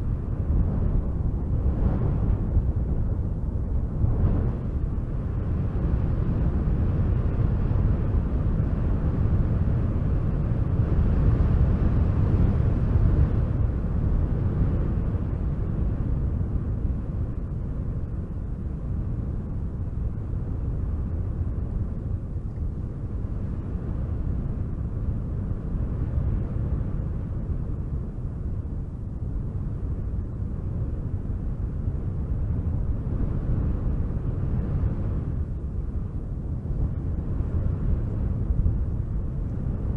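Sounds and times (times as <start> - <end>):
wind blowing with deep rumble: 0.0 - 39.9.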